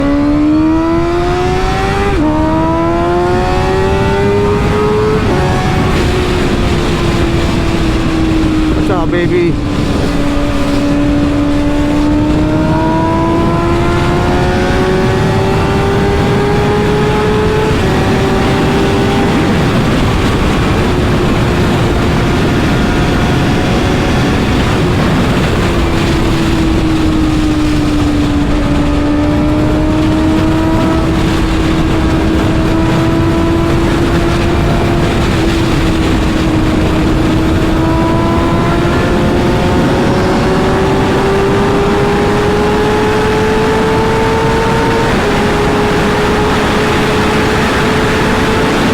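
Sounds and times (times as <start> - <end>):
constant rush of noise: 0.0 - 48.9
motorcycle engine cruising: 0.0 - 48.9.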